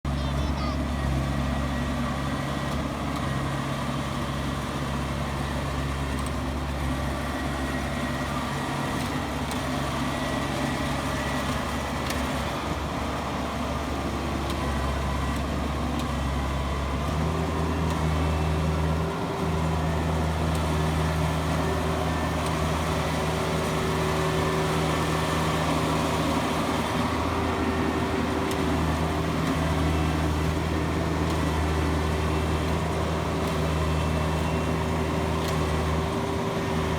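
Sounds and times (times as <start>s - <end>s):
combine harvester engine running: 0.1s - 36.9s.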